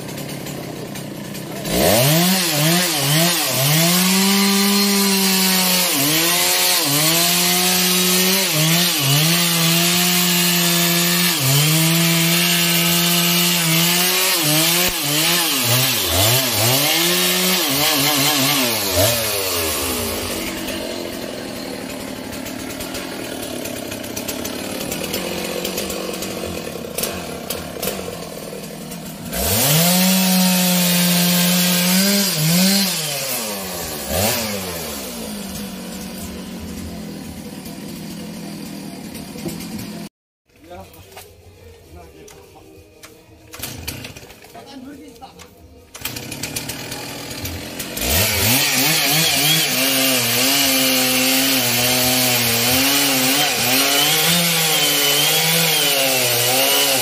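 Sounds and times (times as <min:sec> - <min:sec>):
chainsaw cutting log: 0:00.0 - 0:40.1, 0:43.5 - 0:44.8, 0:45.4 - 0:57.0.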